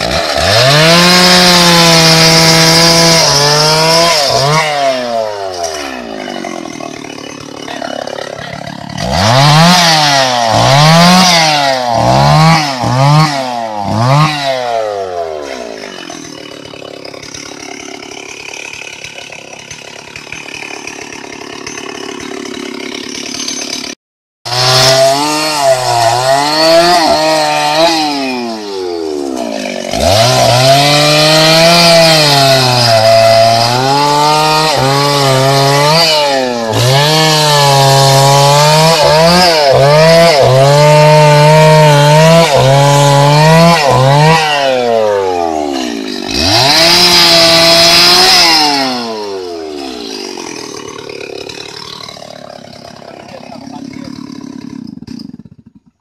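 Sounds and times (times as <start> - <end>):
chainsaw cutting log: 0.0 - 56.0
chainsaw running: 0.0 - 56.0.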